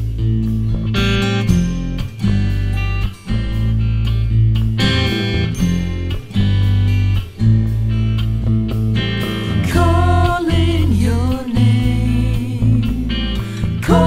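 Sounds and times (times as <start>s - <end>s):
bass line: 0.0s - 14.0s
strummed guitar chords: 0.0s - 14.0s.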